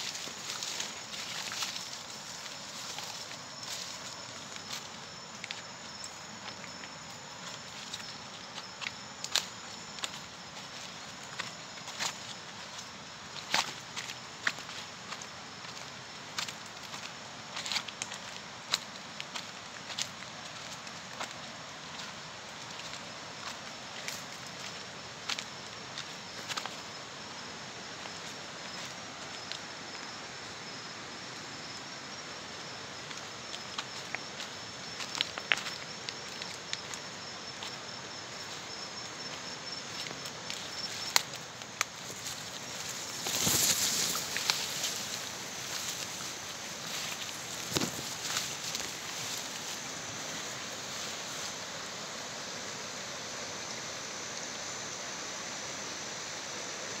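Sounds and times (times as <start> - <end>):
insect trilling: 0.0 - 18.3, 23.4 - 51.9
background hiss: 0.0 - 57.0.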